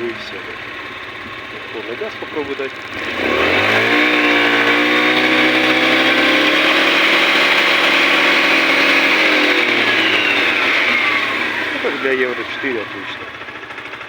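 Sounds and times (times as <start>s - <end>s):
scooter engine revving: 0.0s - 14.0s.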